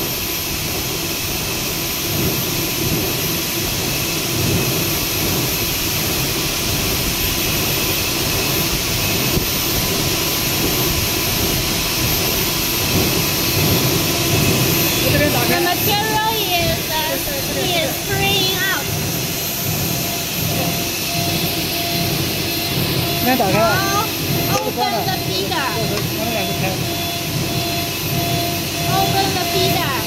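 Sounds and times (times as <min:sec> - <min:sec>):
machine running with rushing noise: 0:00.0 - 0:30.0.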